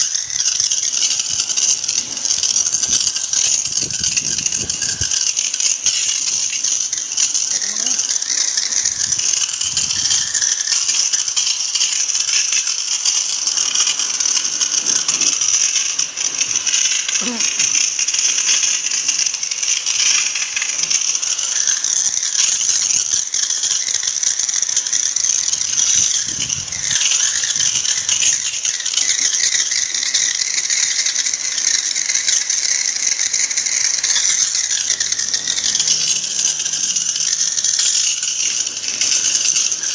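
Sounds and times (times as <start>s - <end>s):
high-pressure water jet hissing: 0.0s - 39.9s.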